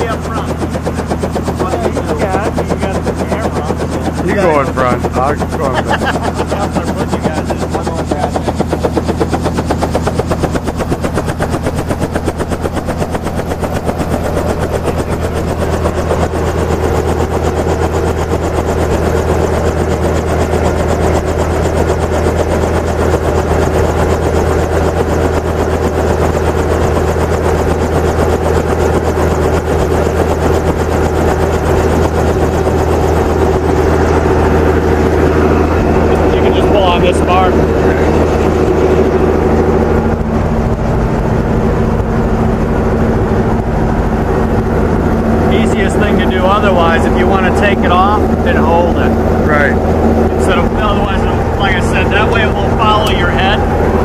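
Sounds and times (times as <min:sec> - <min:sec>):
helicopter engine drone: 0:00.0 - 0:54.0
helicopter rotor chopping: 0:00.0 - 0:54.0.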